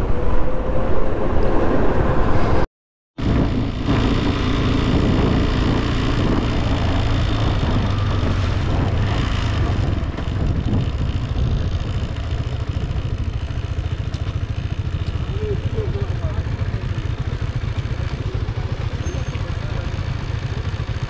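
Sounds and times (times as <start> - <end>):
motorcycle engine rumbling: 3.2 - 21.0.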